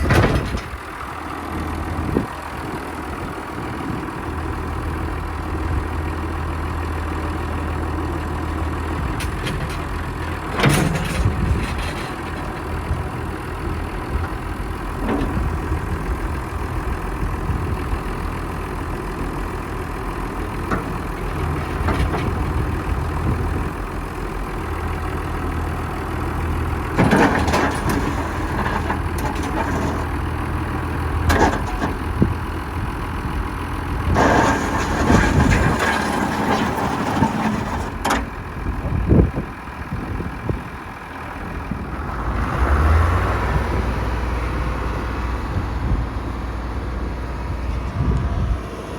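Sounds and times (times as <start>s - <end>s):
tractor diesel engine idling: 0.0s - 48.9s.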